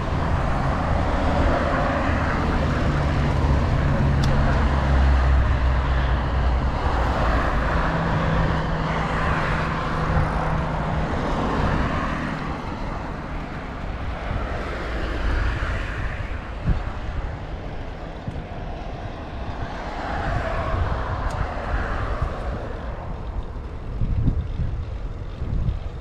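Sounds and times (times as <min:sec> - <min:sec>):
engine hum: 0:00.0 - 0:26.0
road traffic rushing past: 0:00.0 - 0:26.0.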